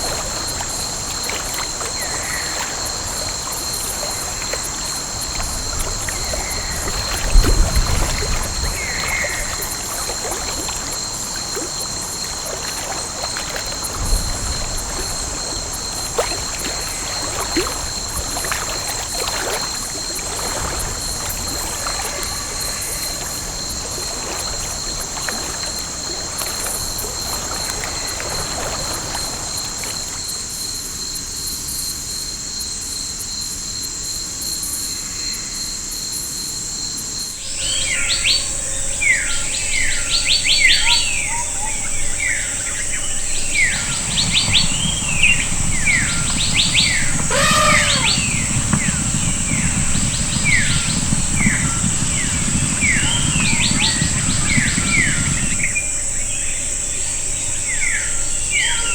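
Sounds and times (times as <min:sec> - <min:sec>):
birds whistling: 0:00.0 - 0:29.4, 0:37.4 - 0:58.9
insects buzzing: 0:00.0 - 0:31.9, 0:36.0 - 0:58.9.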